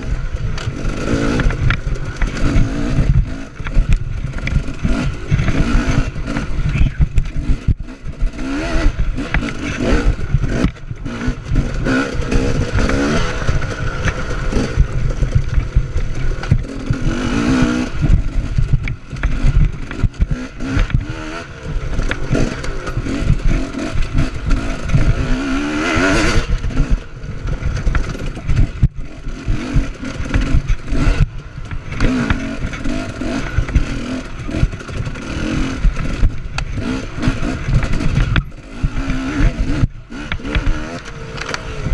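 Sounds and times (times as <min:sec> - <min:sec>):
bike rattling and knocking: 0:00.0 - 0:41.9
dirt bike engine revving: 0:00.0 - 0:41.9.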